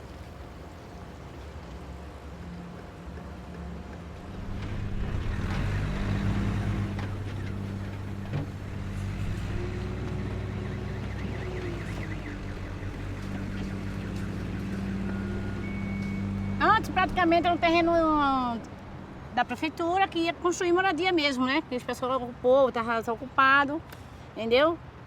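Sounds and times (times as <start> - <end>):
traffic engines humming: 0.0 - 25.0.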